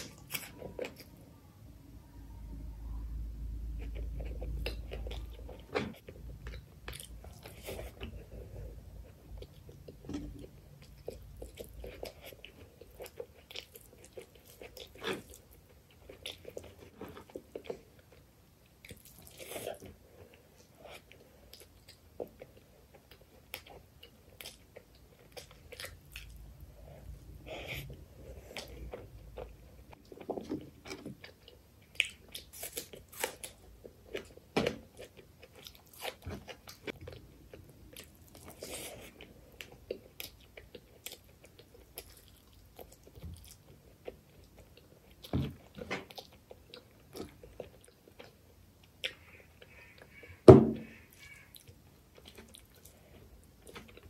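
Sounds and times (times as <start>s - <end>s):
close chewing and mouth sounds: 0.0s - 1.4s, 3.1s - 54.0s.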